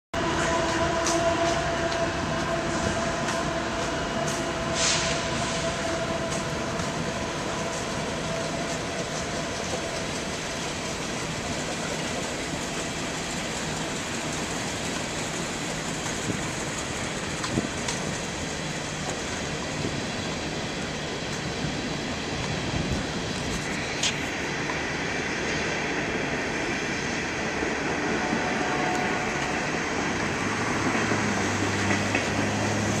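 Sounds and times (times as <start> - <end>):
train wheels on rail: 0.2 - 33.0.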